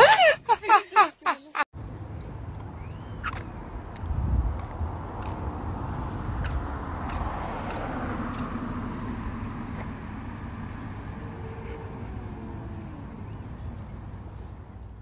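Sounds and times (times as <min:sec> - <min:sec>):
street noise: 0:00.0 - 0:15.0
car passing: 0:01.8 - 0:15.0.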